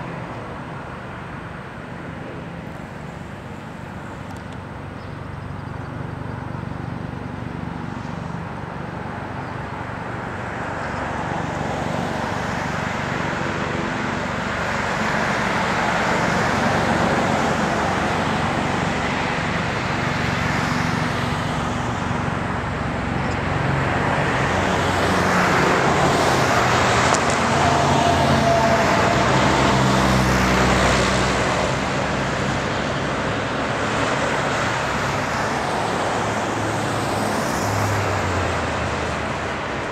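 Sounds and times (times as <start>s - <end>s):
road traffic rushing past: 0.0s - 39.9s.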